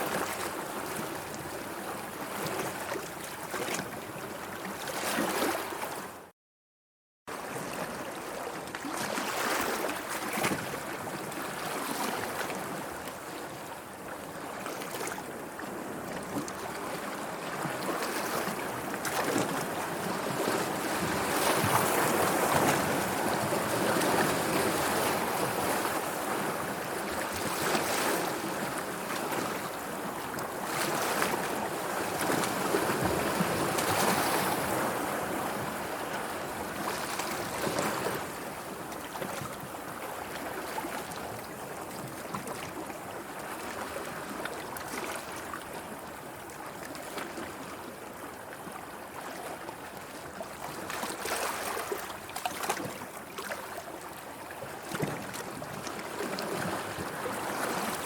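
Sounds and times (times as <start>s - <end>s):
sea water lapping in waves: 0.0s - 6.3s, 7.3s - 58.0s.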